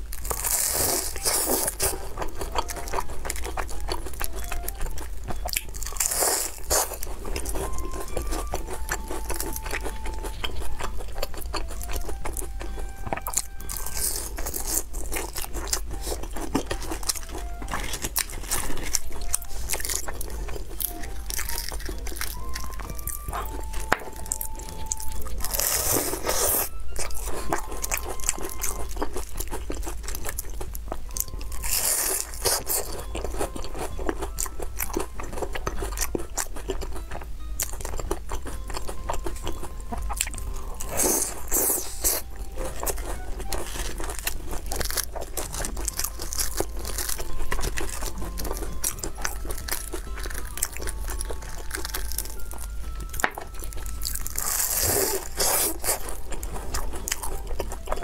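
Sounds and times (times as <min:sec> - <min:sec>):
crunching and chewing: 0:00.0 - 0:58.0
faint simple melody: 0:00.0 - 0:58.0.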